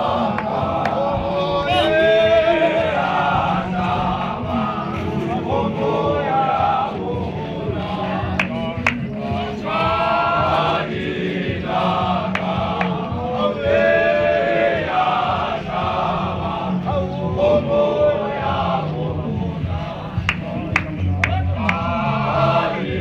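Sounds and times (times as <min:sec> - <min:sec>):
male choir singing unaccompanied: 0:00.0 - 0:23.0.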